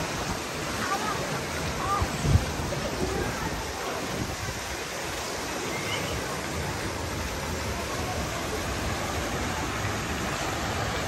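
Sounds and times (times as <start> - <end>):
faint distant voices: 0.0 - 11.0
water rushing down slides: 0.0 - 11.0.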